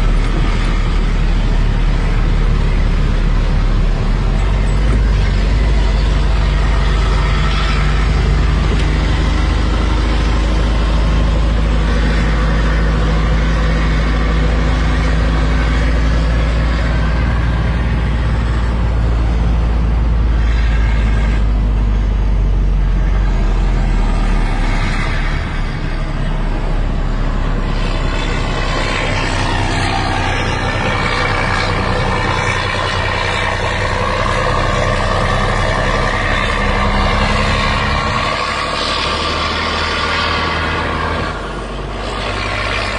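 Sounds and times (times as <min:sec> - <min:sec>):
diesel truck engine drone: 0:00.0 - 0:42.9.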